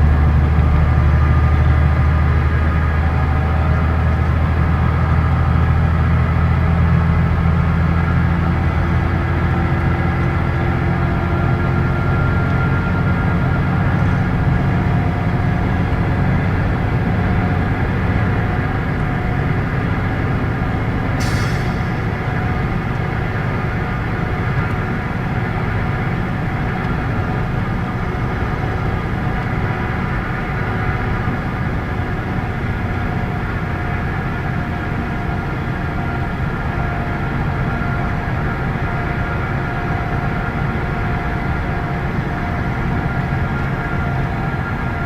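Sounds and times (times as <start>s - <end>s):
bus diesel engine drone: 0.0s - 45.0s.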